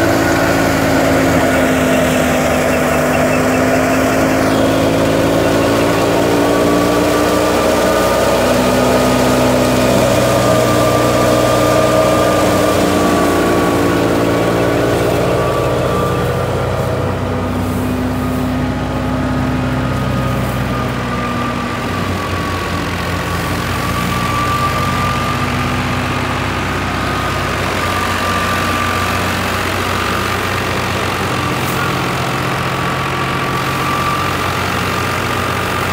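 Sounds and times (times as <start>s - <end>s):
thresher drum and belts humming: 0.0s - 35.9s
tractor diesel engine running: 0.0s - 35.9s.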